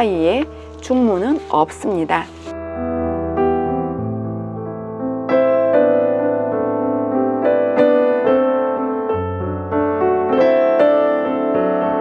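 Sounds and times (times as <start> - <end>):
gentle electric piano melody: 0.0 - 12.0.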